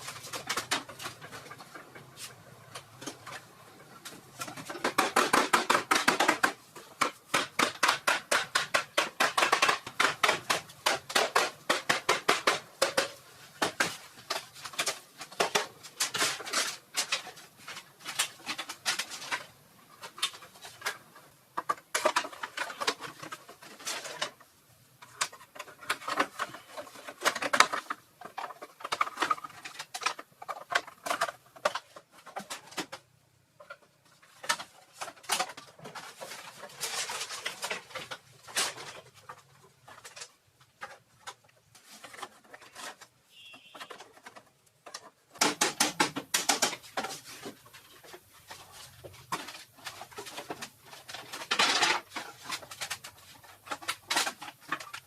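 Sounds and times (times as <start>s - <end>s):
clatter of quick taps and knocks: 4.0s - 55.0s.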